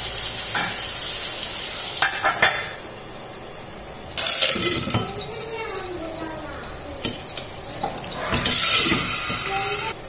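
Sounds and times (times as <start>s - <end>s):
vegetables sizzling in oil: 0.0s - 2.8s, 4.1s - 10.0s.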